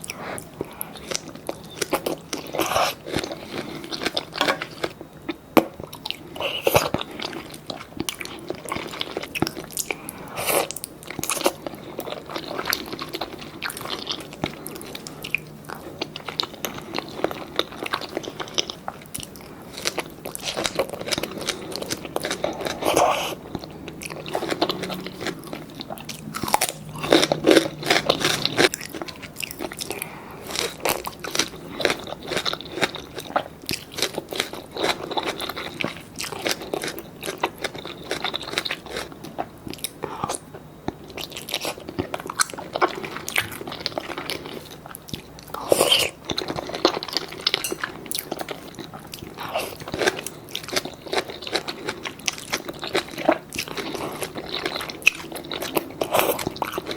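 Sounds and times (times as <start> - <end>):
person chewing crunchy food: 0.0 - 56.9.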